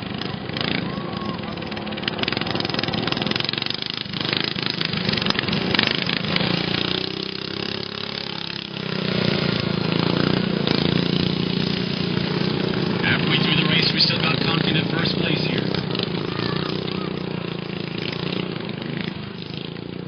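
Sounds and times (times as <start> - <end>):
lawn mower engines running hard: 0.0 - 20.0.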